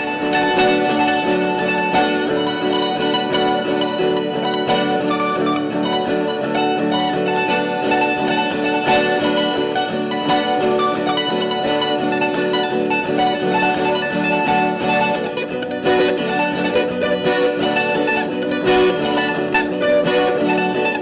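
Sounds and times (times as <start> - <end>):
plucked string instruments: 0.0 - 21.0.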